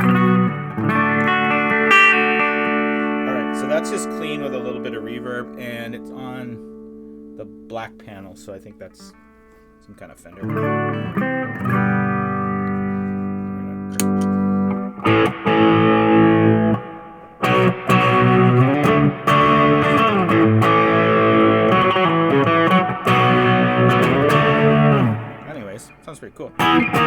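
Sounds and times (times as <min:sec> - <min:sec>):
overdriven electric guitar: 0:00.0 - 0:07.6, 0:09.0 - 0:27.0.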